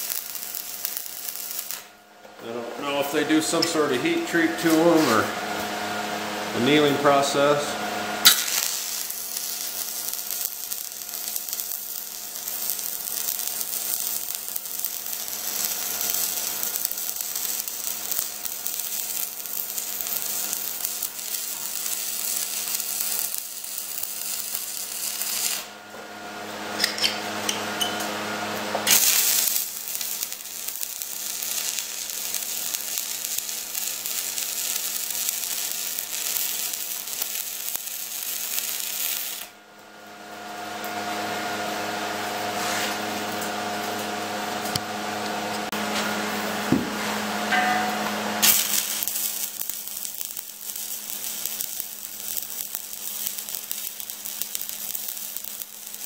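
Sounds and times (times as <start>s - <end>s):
welding arc crackling and hissing: 0.0s - 5.8s, 6.5s - 56.0s.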